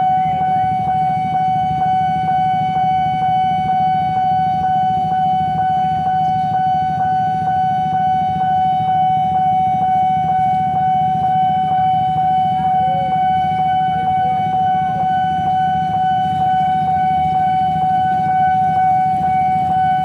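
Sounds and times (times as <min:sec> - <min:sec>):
level-crossing alarm dinging: 0:00.0 - 0:20.0.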